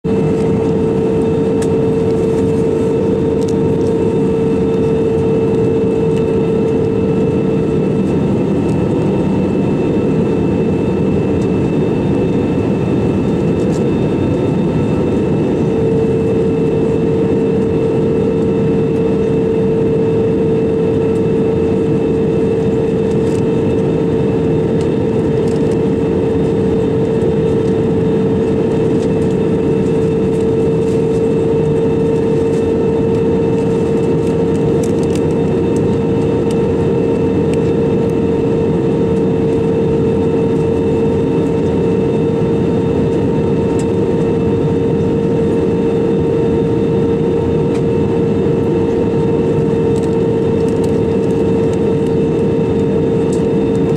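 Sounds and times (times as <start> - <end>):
aircraft engine and airflow roar: 0.0 - 53.9
continuous cabin hum: 0.0 - 53.9.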